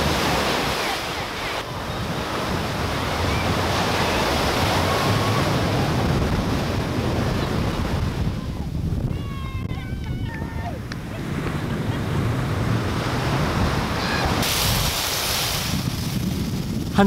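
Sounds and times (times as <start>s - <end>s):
ocean waves breaking on sand: 0.0s - 17.0s.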